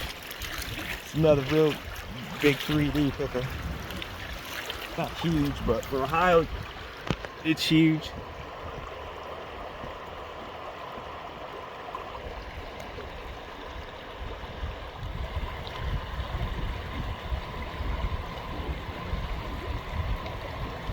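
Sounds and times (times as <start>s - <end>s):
creek water running over rocks: 0.0s - 20.9s.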